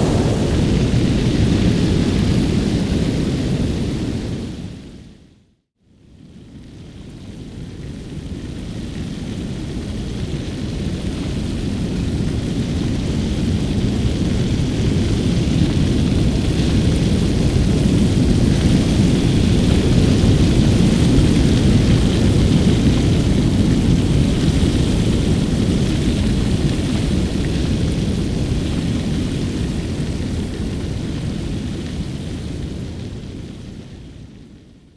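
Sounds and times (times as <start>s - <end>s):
fire whoosh with crackling: 0.0s - 5.1s, 8.9s - 34.6s.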